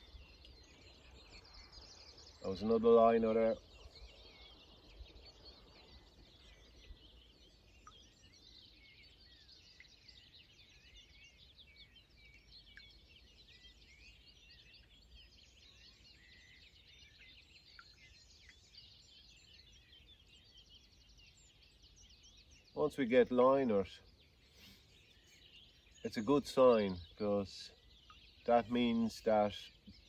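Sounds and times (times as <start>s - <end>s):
birds chirping and trilling: 0.0s - 30.0s.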